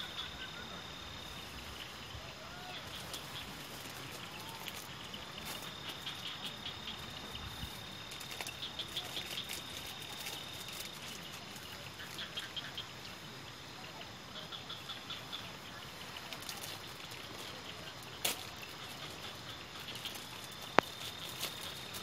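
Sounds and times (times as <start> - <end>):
insects chirping: 0.0 - 22.0
insects trilling: 0.0 - 22.0
light rain patter: 1.3 - 22.0.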